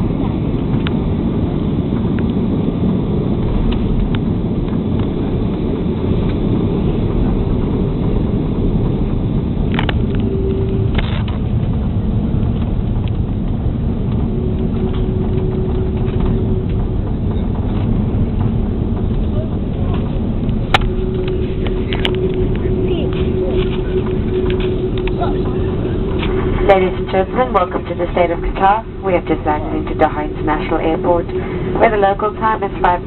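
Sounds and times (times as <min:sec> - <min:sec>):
airliner cabin roar: 0:00.0 - 0:33.0.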